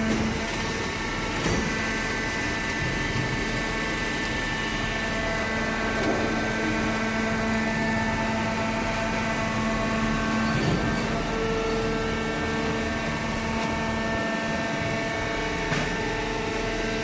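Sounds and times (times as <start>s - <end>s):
motor and hydraulic pump humming: 0.0s - 17.0s.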